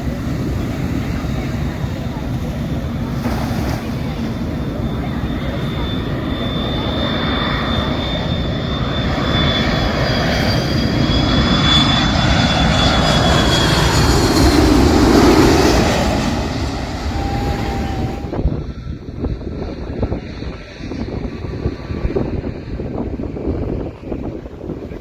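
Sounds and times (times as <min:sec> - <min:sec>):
airliner engines roaring overhead: 0:00.0 - 0:25.0.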